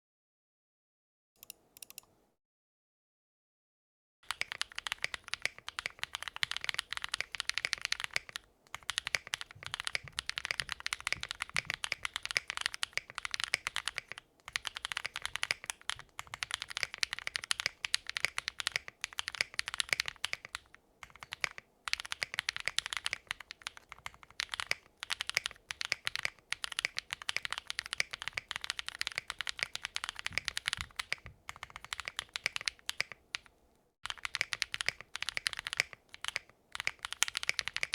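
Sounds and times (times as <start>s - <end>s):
mechanical keyboard clacks: 4.3s - 37.9s.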